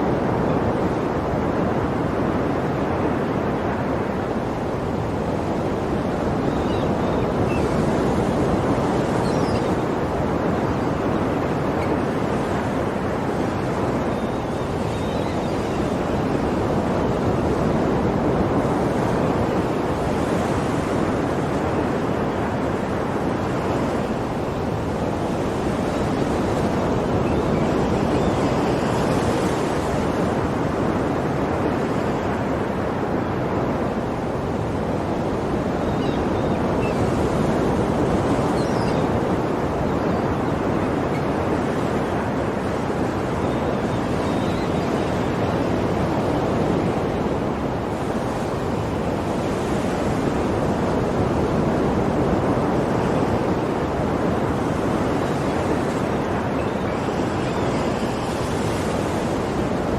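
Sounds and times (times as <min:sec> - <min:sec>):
ocean waves washing in: 0:00.0 - 0:59.9.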